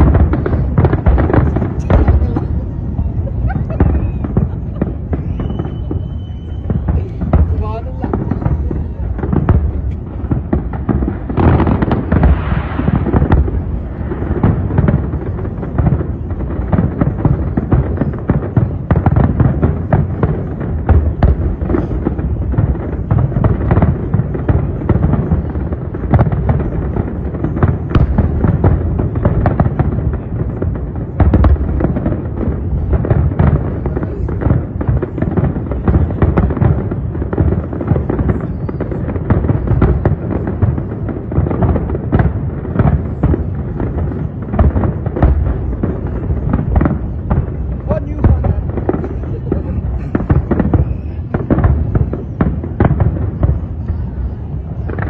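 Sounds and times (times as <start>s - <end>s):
fireworks booming: 0.0s - 55.0s
fireworks cracks and crackles: 0.0s - 55.0s.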